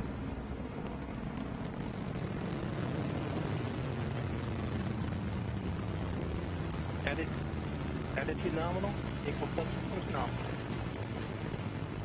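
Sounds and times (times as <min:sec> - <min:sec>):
rocket engine rumble: 0:00.0 - 0:12.0.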